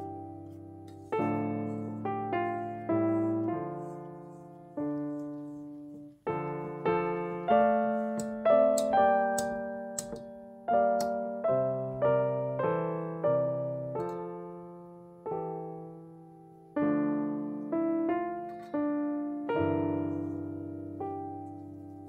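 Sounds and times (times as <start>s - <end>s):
slow solo piano music: 0.0s - 22.0s.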